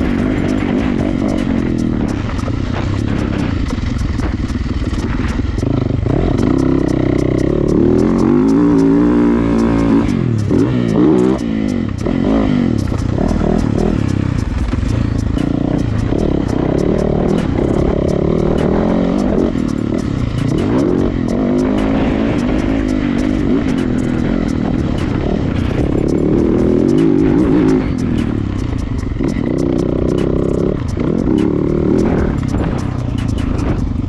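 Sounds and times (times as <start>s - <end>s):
clicks and rattles: 0.0s - 34.0s
motocross bike engine revving: 0.0s - 34.0s.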